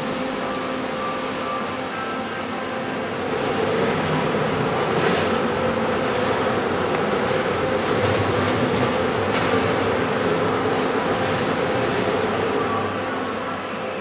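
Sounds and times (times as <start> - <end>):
robotic welding station running: 0.0 - 14.0.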